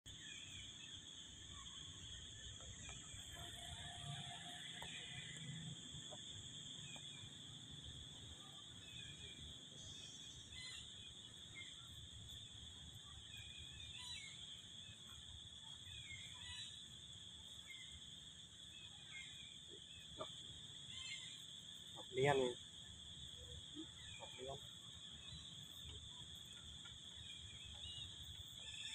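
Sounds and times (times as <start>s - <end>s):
high-pitched insect drone: 0.1s - 28.9s.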